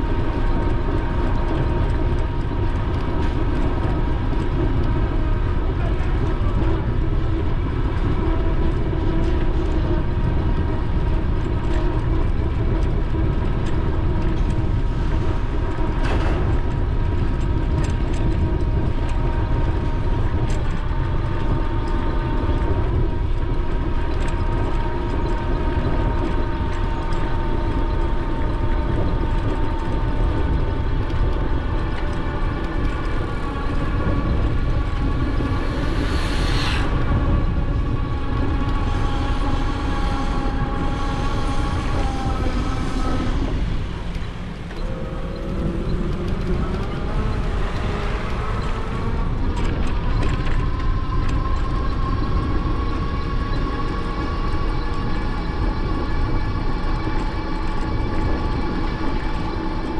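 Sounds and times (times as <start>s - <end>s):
thin steady whine: 0.0s - 59.9s
wind on microphone: 0.0s - 59.9s.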